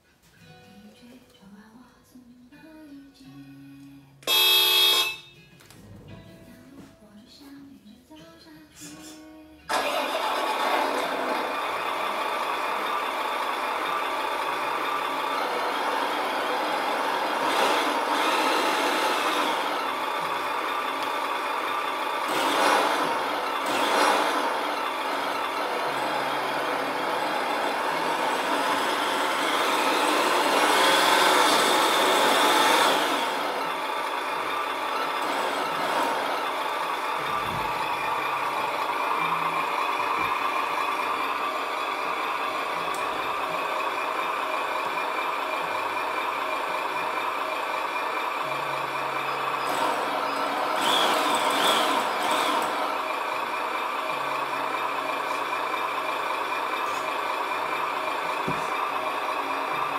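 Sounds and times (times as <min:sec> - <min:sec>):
simulated truck engine sound: 0:03.7 - 0:06.3, 0:08.8 - 0:59.9.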